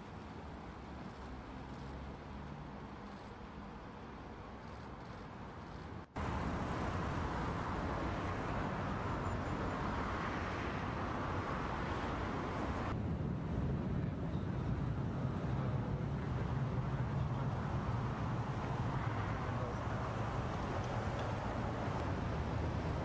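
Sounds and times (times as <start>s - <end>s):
low rumble of distant traffic: 0.0s - 23.0s.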